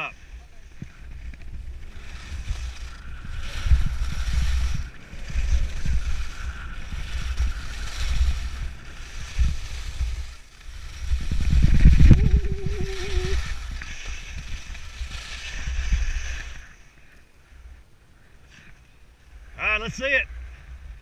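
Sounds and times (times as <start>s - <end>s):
wind buffeting microphone: 0.0s - 17.0s
skis scraping packed snow: 0.0s - 21.0s.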